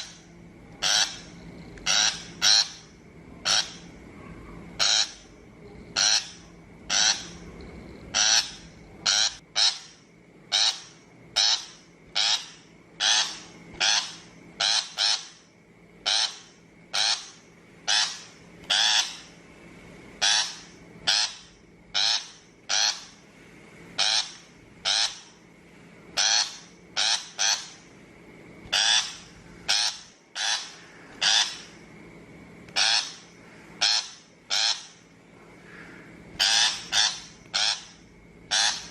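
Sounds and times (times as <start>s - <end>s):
shrike harsh calls: 0.0s - 19.4s, 20.2s - 23.2s, 24.0s - 25.4s, 26.2s - 27.9s, 28.7s - 31.8s, 32.7s - 38.9s.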